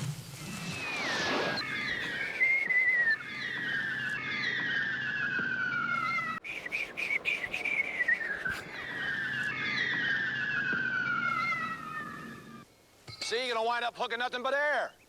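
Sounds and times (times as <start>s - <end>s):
descending falling whistles: 0.0s - 12.7s.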